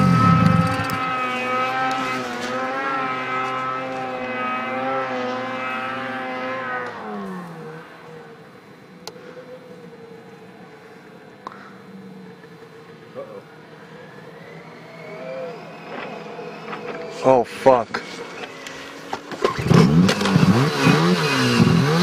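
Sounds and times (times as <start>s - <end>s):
snowmobile engine running: 0.0s - 22.0s.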